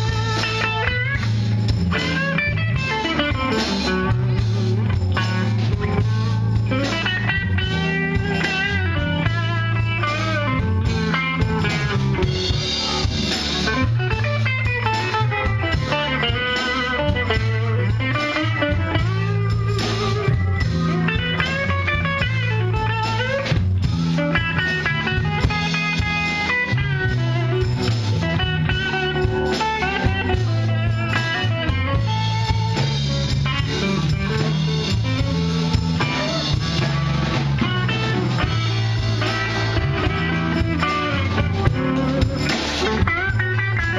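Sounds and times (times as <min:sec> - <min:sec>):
electric guitar: 0:00.0 - 0:43.9
live blues-rock band playing: 0:00.0 - 0:43.9.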